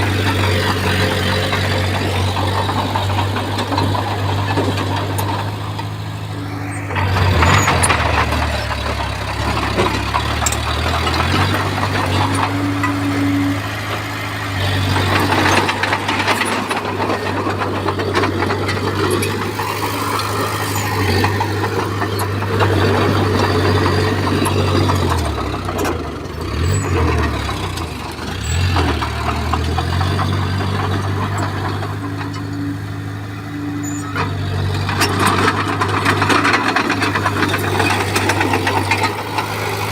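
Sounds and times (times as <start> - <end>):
bulldozer diesel engine under load: 0.0 - 39.9
soil and stone grinding and clanking: 0.0 - 39.9.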